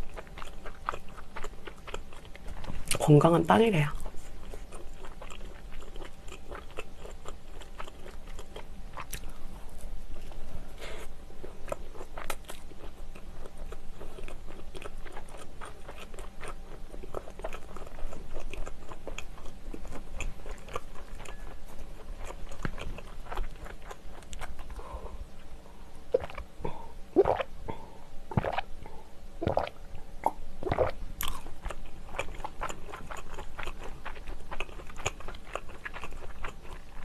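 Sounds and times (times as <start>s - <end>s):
chewing crunchy bread roll: 0.0s - 37.0s.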